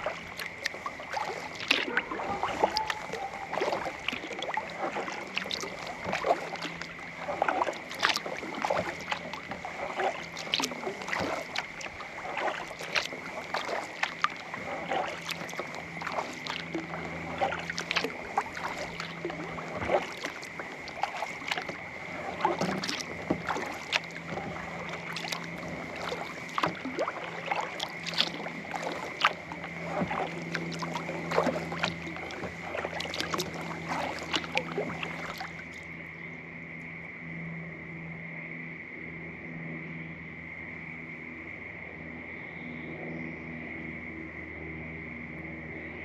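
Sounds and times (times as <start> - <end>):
paddle strokes in water: 0.0 - 37.0.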